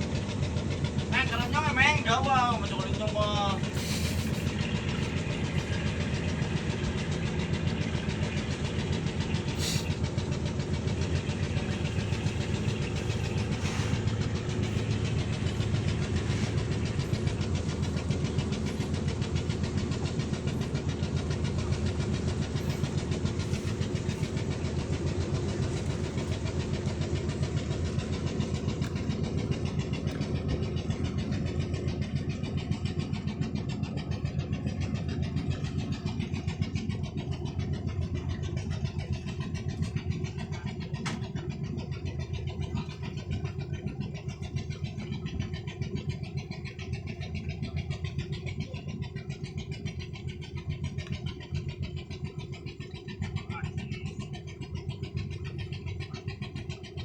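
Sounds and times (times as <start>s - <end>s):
engine chugging steadily: 0.0s - 57.0s.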